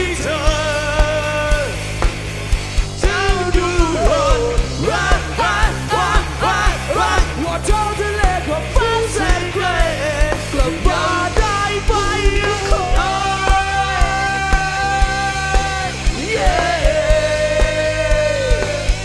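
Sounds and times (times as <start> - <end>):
bass: 0.0 - 19.0
drum beat: 0.0 - 19.0.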